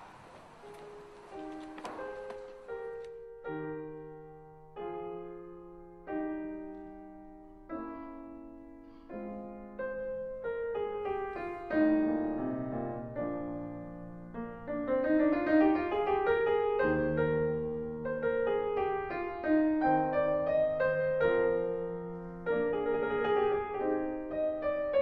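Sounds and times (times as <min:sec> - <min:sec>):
solo piano music: 0:00.0 - 0:25.0.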